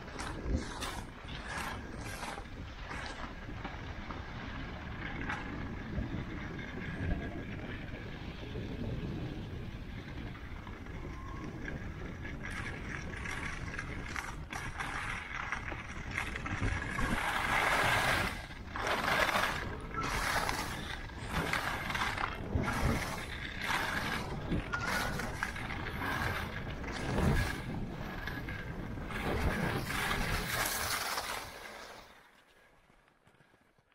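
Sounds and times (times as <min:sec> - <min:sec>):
scraping and crunching on snow: 0:00.0 - 0:06.9, 0:11.6 - 0:32.8
steady low rumble: 0:00.0 - 0:30.8.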